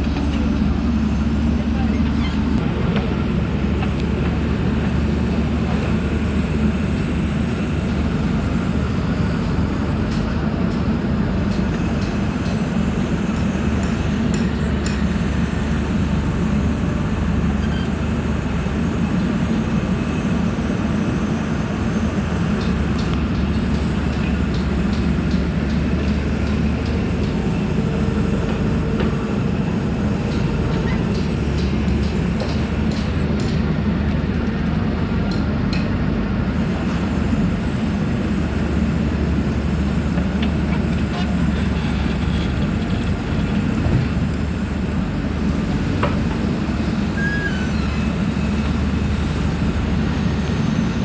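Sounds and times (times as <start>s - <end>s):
diesel engine humming: 0.0s - 51.0s.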